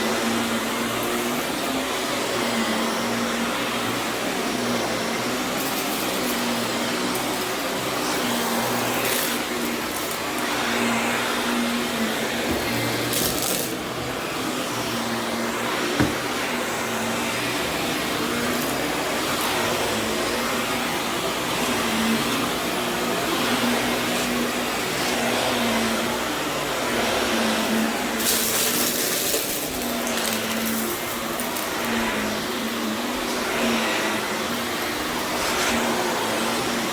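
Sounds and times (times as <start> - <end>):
vacuum cleaner running on carpet: 0.0 - 36.9.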